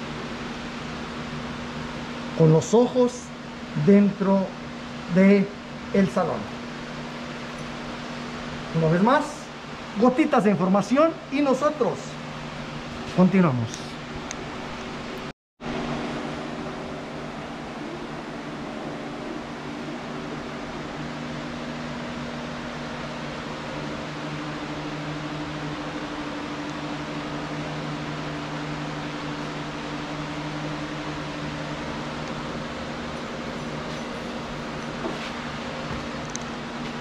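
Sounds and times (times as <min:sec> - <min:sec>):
cooling fans whirring: 0:00.0 - 0:37.0
low multi-tone hum: 0:00.0 - 0:37.0.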